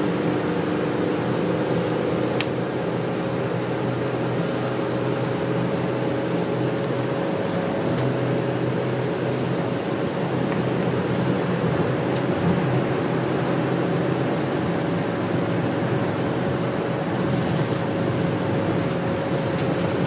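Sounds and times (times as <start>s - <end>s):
bus engine and road noise: 0.0s - 20.0s
constant hum: 0.0s - 20.0s.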